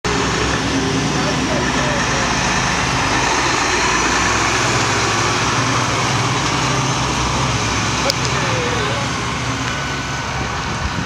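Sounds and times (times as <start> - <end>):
fire engine diesel engine passing: 0.0 - 11.0.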